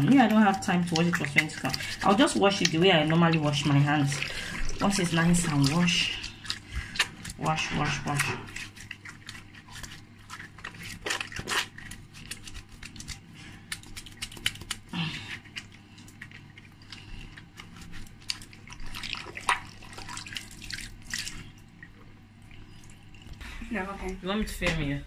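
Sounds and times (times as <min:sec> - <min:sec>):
water splashing from hand washing: 0:00.0 - 0:23.4.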